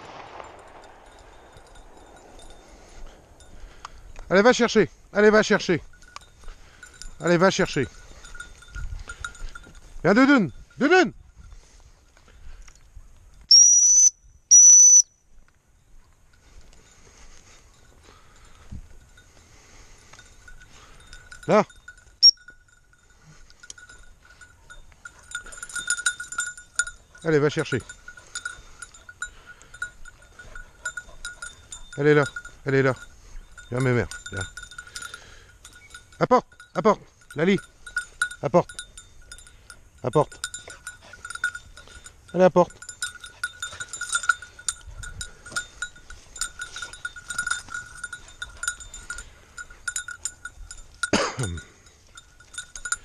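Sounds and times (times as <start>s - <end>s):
collar bell jingling: 0.0s - 53.0s.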